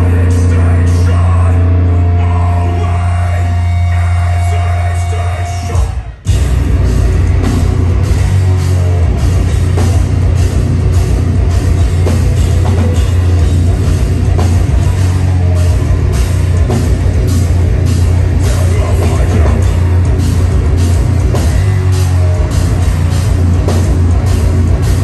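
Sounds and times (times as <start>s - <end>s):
distorted electric guitars: 0.0s - 25.0s
heavy drums: 0.0s - 25.0s.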